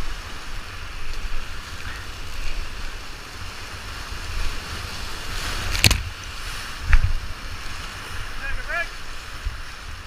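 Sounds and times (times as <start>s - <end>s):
wind buffeting microphone: 0.0s - 8.4s
whitewater rapids rushing: 0.0s - 10.0s.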